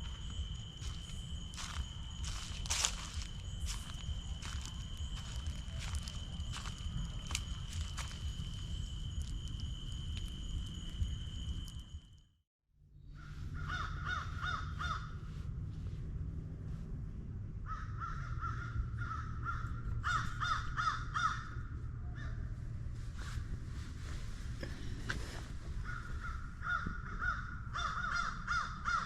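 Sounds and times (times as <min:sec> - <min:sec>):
steady low hum: 0:00.0 - 0:12.2, 0:12.9 - 0:29.0.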